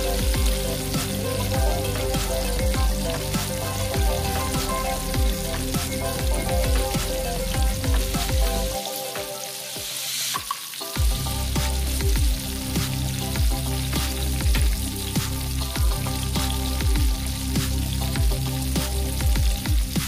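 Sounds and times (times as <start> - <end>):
background music: 0.0 - 20.0
frying in hot oil sizzle: 0.0 - 20.0.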